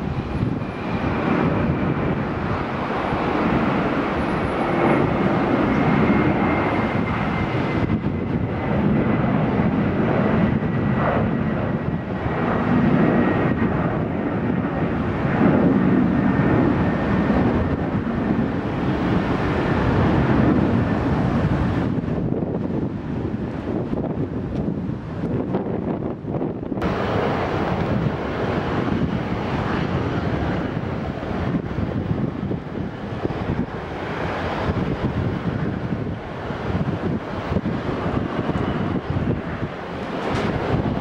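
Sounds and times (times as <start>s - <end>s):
faint jet whine: 0.0s - 41.0s
jet engines rumbling: 0.0s - 41.0s.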